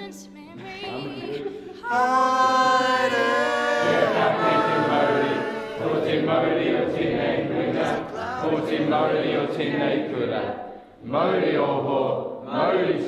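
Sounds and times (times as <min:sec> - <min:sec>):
group singing and chanting: 0:00.6 - 0:13.0.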